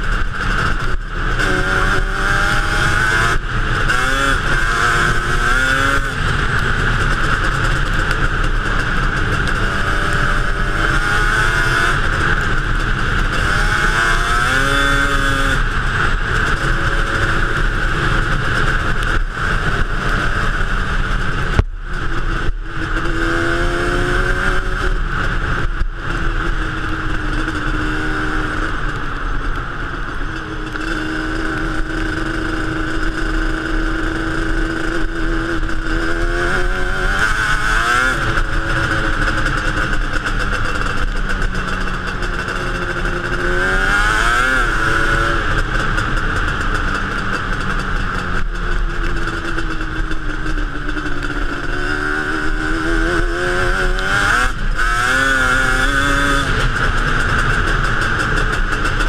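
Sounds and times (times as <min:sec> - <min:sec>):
two-stroke engine revving: 0:00.0 - 0:29.6, 0:30.3 - 0:59.0.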